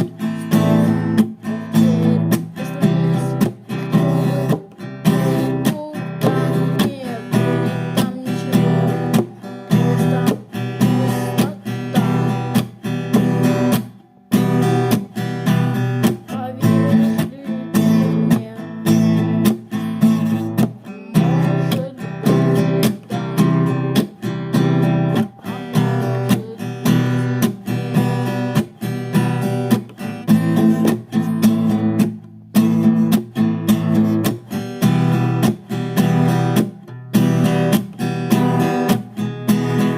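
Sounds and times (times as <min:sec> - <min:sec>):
acoustic guitar strumming chords: 0:00.0 - 0:39.9.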